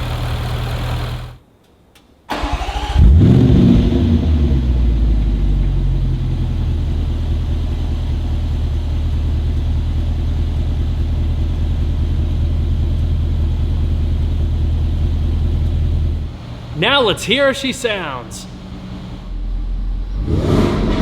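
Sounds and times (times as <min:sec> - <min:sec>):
car engine idling: 0:00.0 - 0:01.4, 0:04.0 - 0:20.2.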